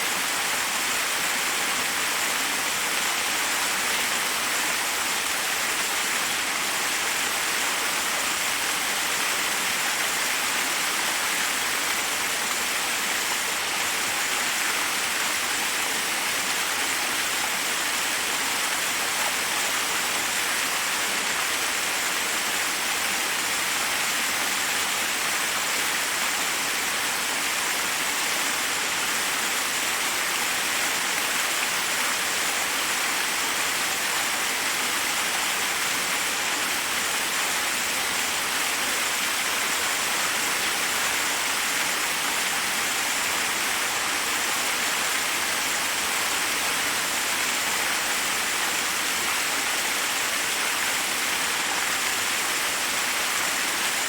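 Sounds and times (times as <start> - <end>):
water cascading over rocks: 0.0 - 54.0.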